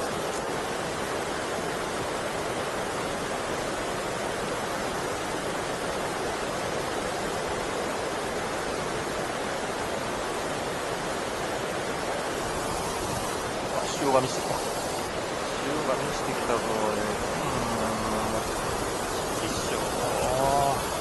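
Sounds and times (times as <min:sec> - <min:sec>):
river water pouring over weir: 0:00.0 - 0:21.0.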